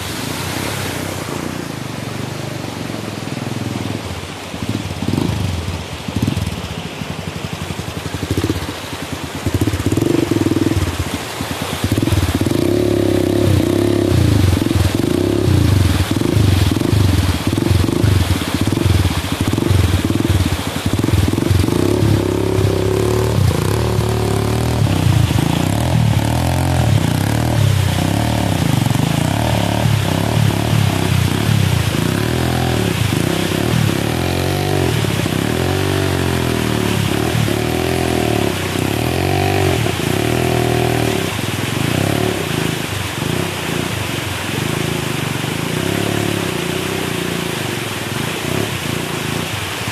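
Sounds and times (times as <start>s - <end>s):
water rushing and splashing: 0.0s - 49.9s
dirt bike engine revving: 5.0s - 6.4s, 8.2s - 49.6s.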